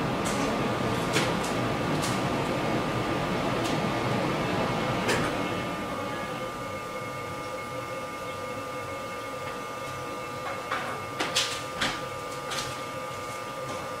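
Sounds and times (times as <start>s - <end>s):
fan-like room hum: 0.0s - 14.0s.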